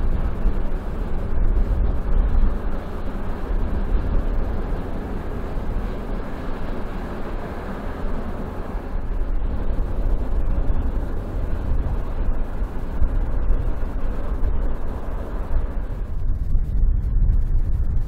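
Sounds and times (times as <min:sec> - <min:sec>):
boat diesel engine rumble: 0:00.0 - 0:18.0.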